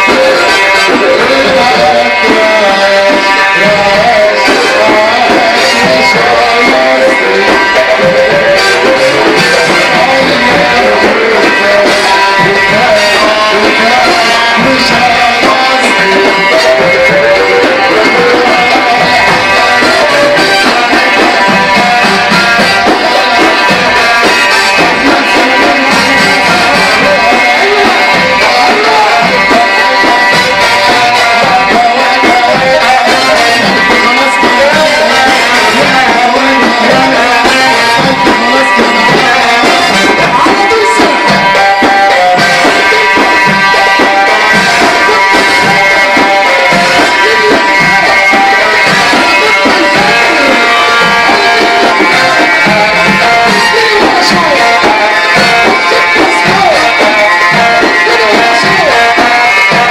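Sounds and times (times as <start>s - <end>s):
hand drum rhythm: 0.0s - 59.9s
wedding band music: 0.0s - 59.9s.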